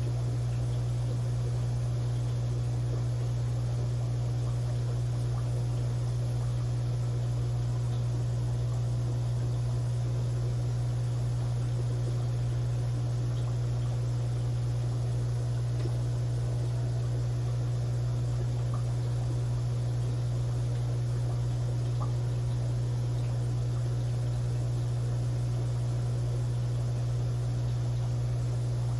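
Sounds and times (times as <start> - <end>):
low electrical hum: 0.0 - 28.9.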